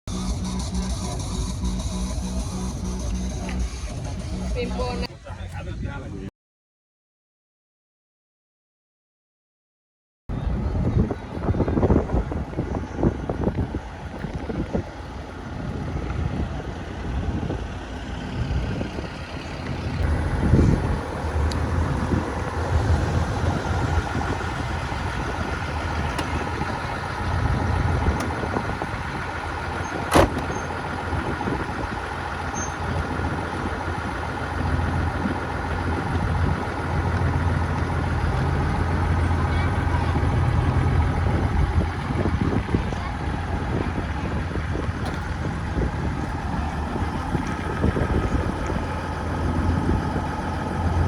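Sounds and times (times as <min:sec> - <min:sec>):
engine running at low revs: 0:00.1 - 0:05.1, 0:10.3 - 0:51.0.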